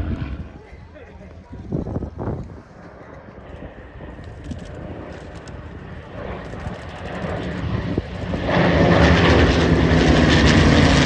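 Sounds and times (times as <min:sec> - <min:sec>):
propeller aircraft engine: 0:00.0 - 0:11.0.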